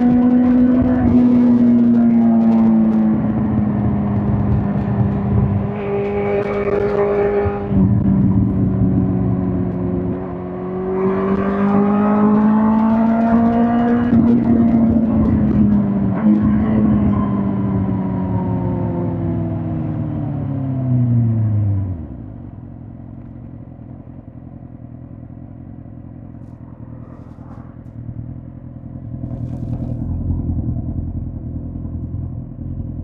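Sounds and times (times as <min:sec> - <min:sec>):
motorcycle engine accelerating: 0:00.0 - 0:22.5, 0:23.4 - 0:33.0.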